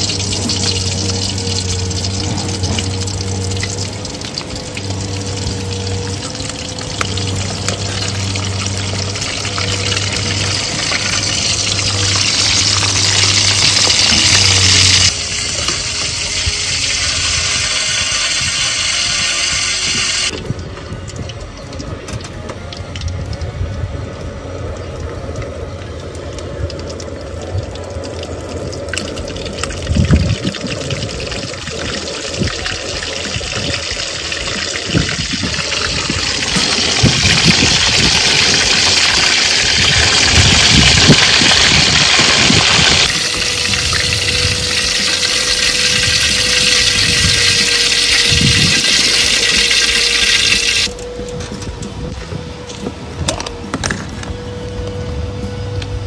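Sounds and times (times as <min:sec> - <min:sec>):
food deep-frying in oil: 0:00.0 - 0:51.1.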